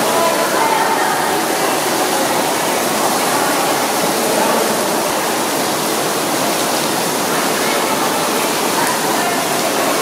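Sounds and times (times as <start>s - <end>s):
artificial rain pouring and splashing: 0.0s - 10.0s.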